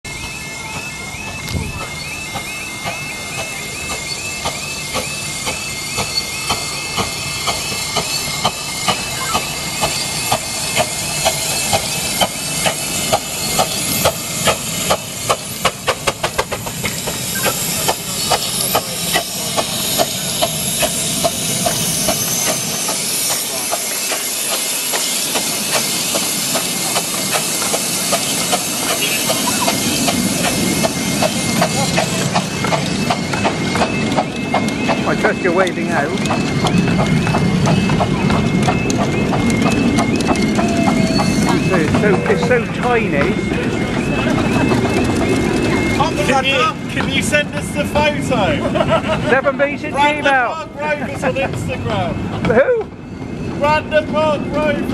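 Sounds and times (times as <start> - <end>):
two-tone crossing alarm: 0.1 - 23.6, 24.3 - 48.9
steam locomotive hissing: 0.1 - 54.9
train wheels clicking over rail joints: 0.1 - 54.9.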